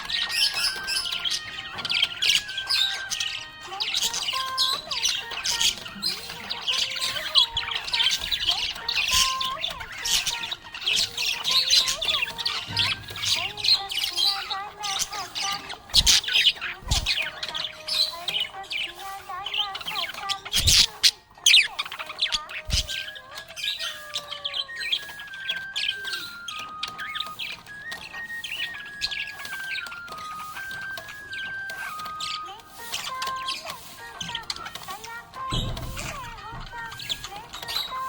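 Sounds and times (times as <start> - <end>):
budgerigar chirping and chattering: 0.0 - 38.0.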